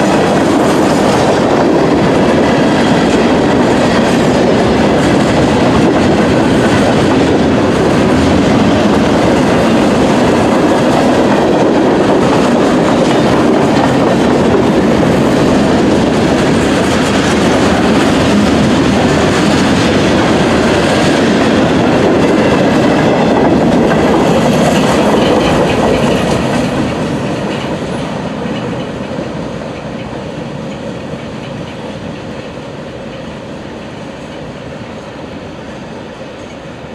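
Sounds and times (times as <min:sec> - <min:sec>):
train wheels on rails: 0:00.0 - 0:36.9.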